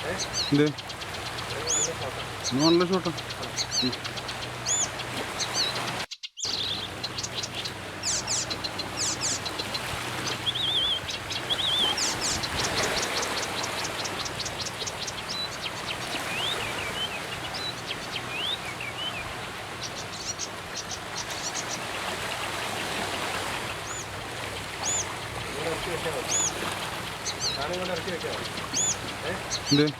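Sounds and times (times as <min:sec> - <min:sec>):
steady background hiss: 0:00.0 - 0:29.9
wild birds singing and calling: 0:00.0 - 0:29.9.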